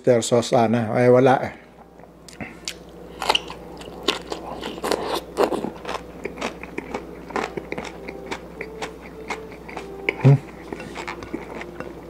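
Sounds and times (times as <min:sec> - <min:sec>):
person chewing crunchy vegetables: 0:02.2 - 0:12.0.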